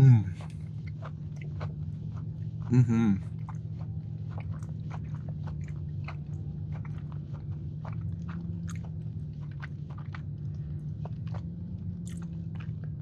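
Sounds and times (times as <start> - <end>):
person chewing: 0.0 - 13.0
steady low hum: 0.0 - 13.0.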